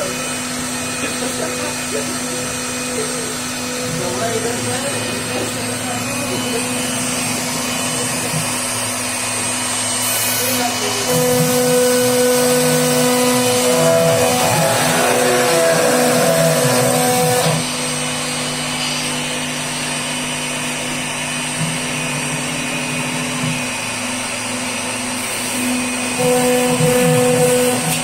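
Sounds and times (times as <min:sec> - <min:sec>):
router spindle cutting with whine: 0:00.0 - 0:28.0.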